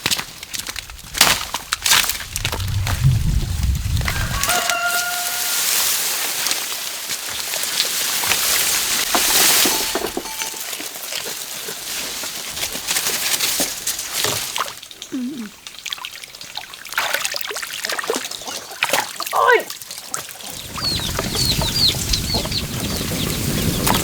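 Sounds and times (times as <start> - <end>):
water pouring and splashing: 0.5 - 22.3.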